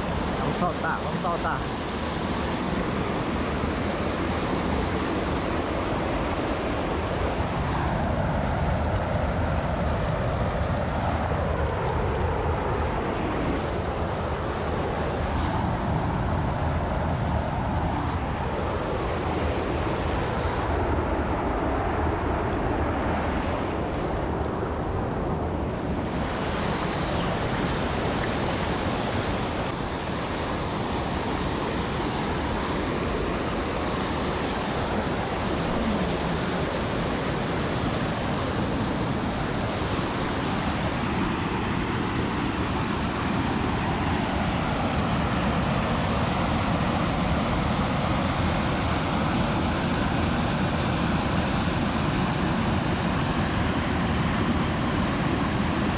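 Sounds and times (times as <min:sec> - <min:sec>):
rushing water: 0:00.0 - 0:55.9.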